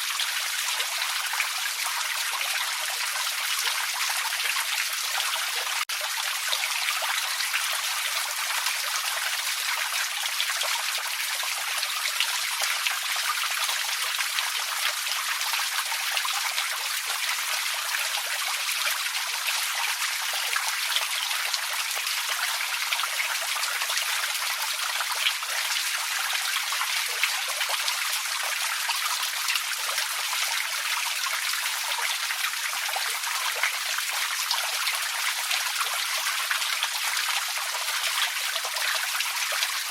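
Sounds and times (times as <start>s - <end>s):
creek trickling over stones: 0.0s - 39.9s.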